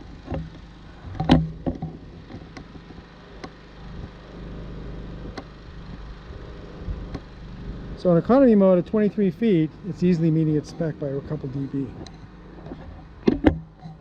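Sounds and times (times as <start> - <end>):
generator running: 0.0 - 14.0.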